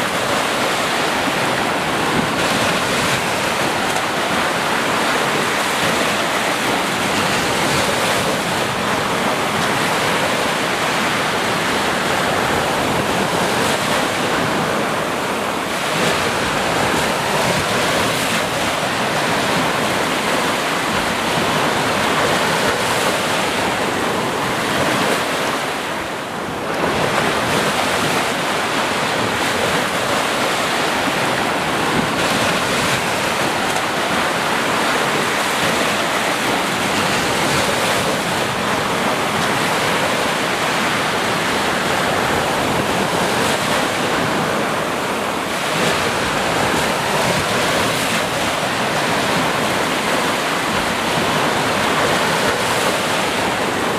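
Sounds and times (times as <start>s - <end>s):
sea waves breaking: 0.0s - 53.9s.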